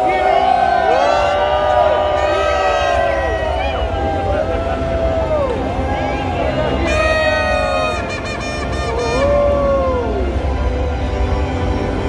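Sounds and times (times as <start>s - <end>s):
crowd cheering and shouting: 0.0s - 10.7s.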